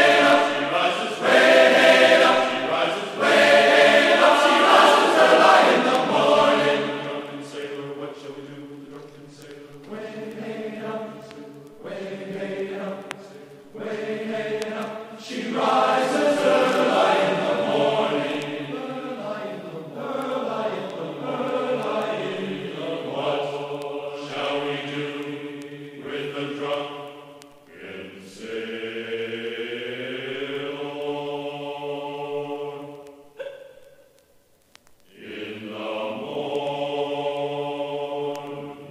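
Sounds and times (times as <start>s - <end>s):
choir voices holding chords: 0.0s - 33.4s, 35.1s - 38.9s.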